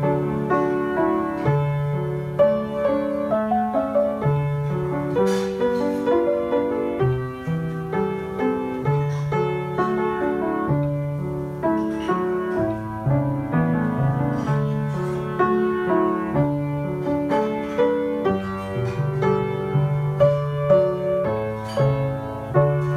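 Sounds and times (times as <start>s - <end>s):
piano playing hymn: 0.0s - 22.9s.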